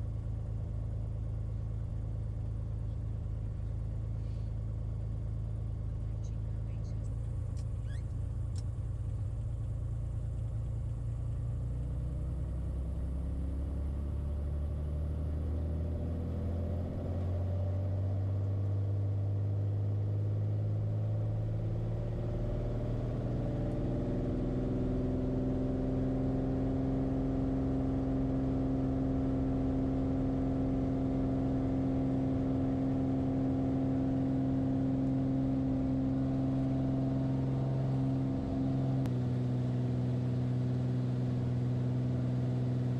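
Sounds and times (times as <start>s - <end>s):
light aircraft engine droning: 0.0s - 11.5s, 15.3s - 42.9s.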